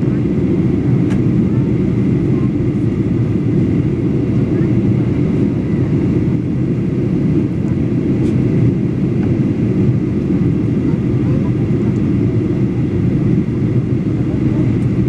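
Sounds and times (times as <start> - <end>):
airplane cabin engine roar: 0.0 - 15.0.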